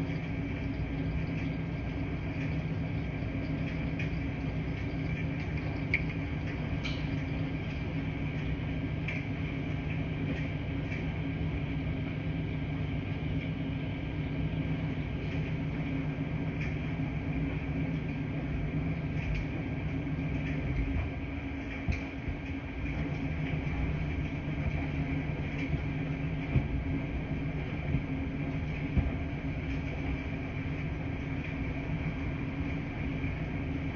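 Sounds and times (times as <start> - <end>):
washing machines humming: 0.0 - 33.9.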